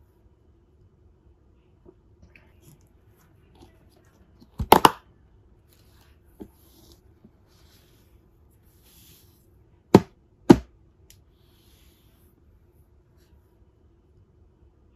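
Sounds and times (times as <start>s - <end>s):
faint steady hum: 0.0s - 14.9s.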